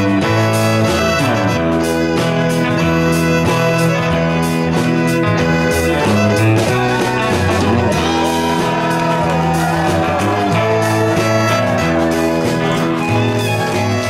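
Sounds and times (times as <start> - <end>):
country band playing: 0.0 - 14.0
electric fiddle sliding notes: 0.0 - 14.0.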